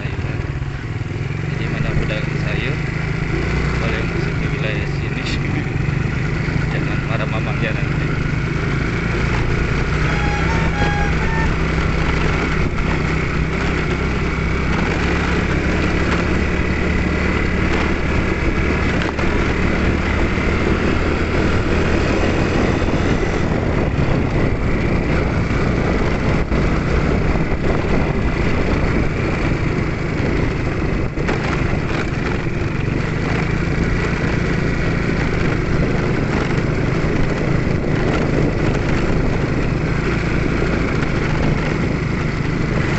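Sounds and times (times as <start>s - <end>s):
road noise: 0.0s - 42.9s
vehicle engine running: 0.0s - 42.9s
wind noise: 4.6s - 42.9s.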